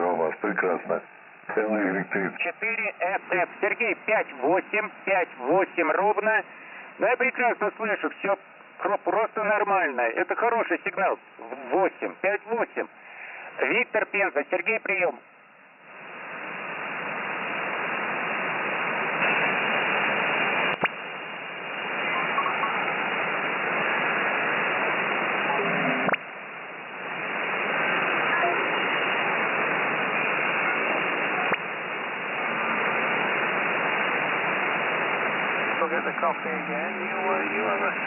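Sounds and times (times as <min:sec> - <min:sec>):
shortwave radio hiss: 0:00.0 - 0:38.0.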